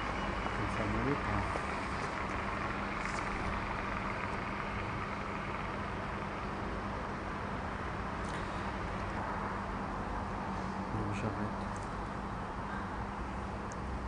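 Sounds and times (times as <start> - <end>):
constant low hum: 0.0 - 14.0
distant traffic hiss: 0.0 - 14.0.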